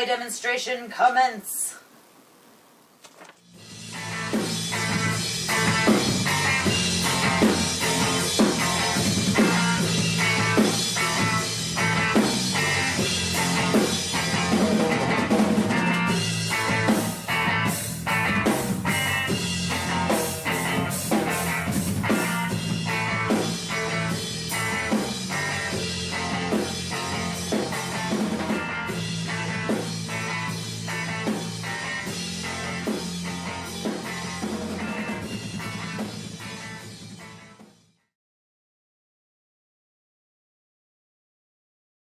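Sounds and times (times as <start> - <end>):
rock music: 3.5 - 38.0.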